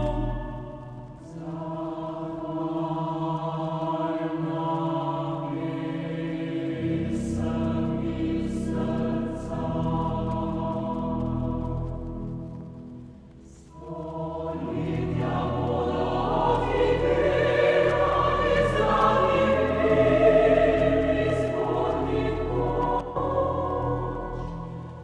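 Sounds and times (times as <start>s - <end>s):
choir singing: 0.0s - 12.6s, 13.4s - 25.0s.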